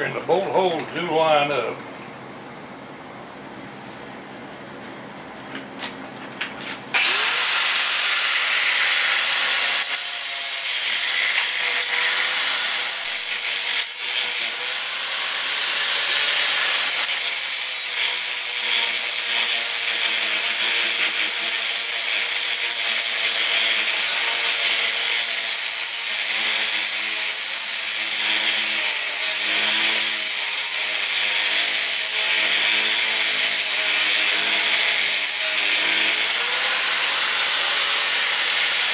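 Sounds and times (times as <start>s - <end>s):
angle grinder grinding steel: 7.0s - 38.9s.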